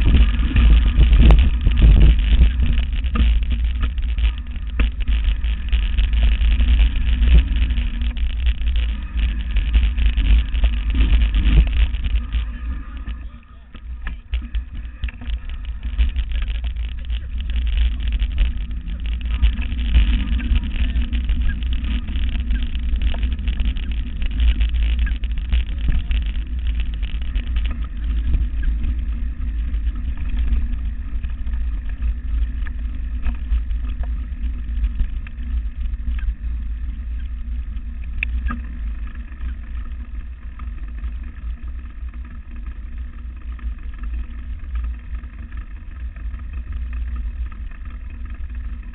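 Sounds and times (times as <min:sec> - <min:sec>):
bike rattling and clicking: 0:00.0 - 0:48.9
bike rolling over dirt trail: 0:00.0 - 0:48.9.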